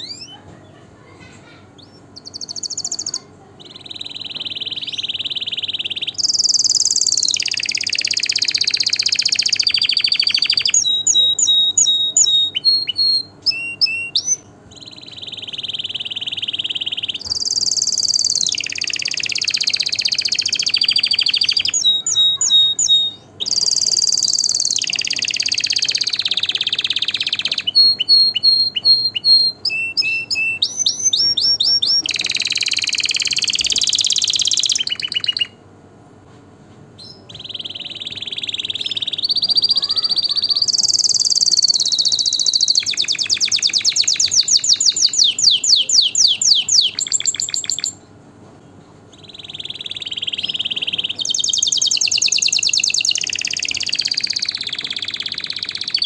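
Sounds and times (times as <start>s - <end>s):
canary singing trills: 0.0s - 35.8s, 36.9s - 56.0s.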